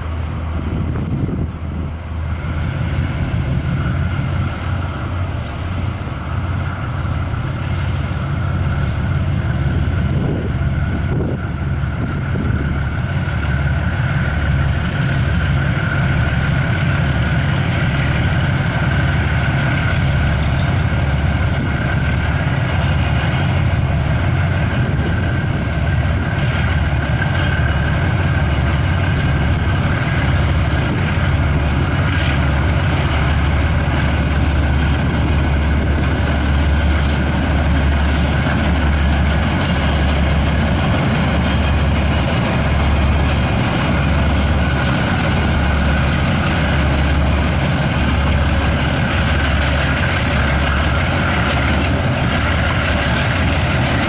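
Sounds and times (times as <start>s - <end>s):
diesel locomotive engine throb: 0.0s - 54.0s
high engine hum: 0.0s - 54.0s.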